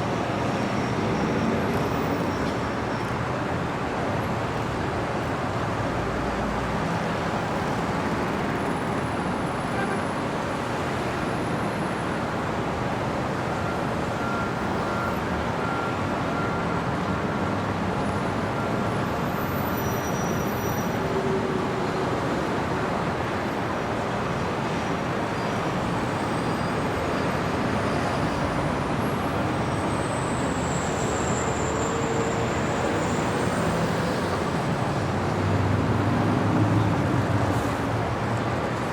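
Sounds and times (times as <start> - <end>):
passing cars and heavy vehicles: 0.0 - 38.9.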